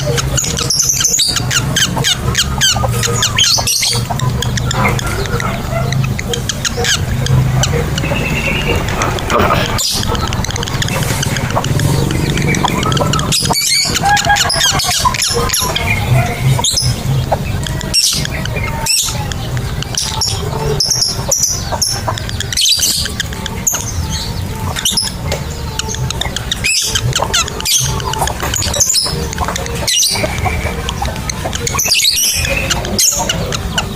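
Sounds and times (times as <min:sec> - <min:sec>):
lovebird chattering: 0:00.0 - 0:33.9.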